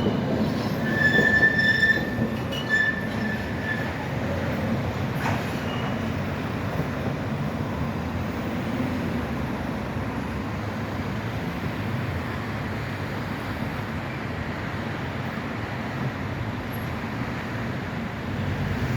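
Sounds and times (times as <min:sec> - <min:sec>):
city street traffic rumble: 0:00.0 - 0:18.9.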